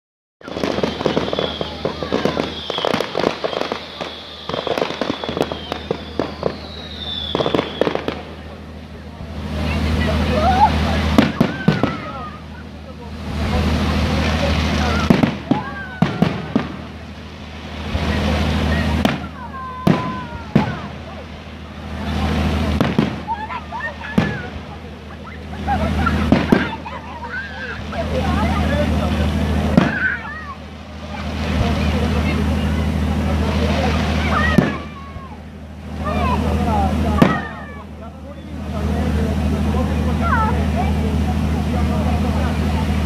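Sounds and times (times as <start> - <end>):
fireworks bangs and crackles: 0.4 - 43.0
low hum: 0.4 - 43.0.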